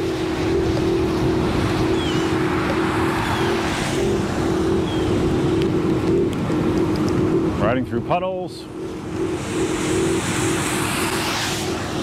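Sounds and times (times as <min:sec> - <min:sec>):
electric motor hum: 0:00.0 - 0:07.6, 0:08.7 - 0:12.0
tyre and wind rush: 0:00.0 - 0:12.0.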